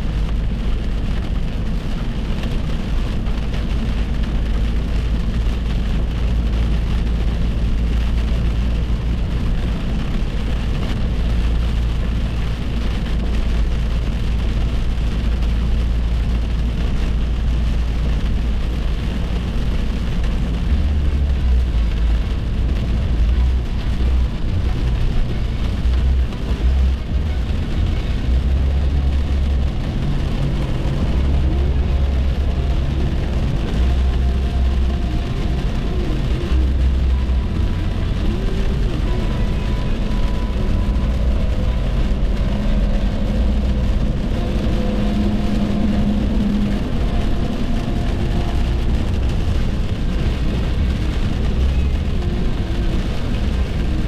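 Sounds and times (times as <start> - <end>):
car road noise inside cabin: 0.0 - 54.0.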